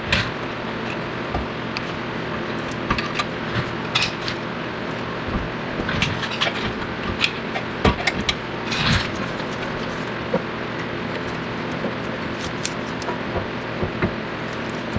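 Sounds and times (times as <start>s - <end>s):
steady background hum: 0.0s - 14.9s.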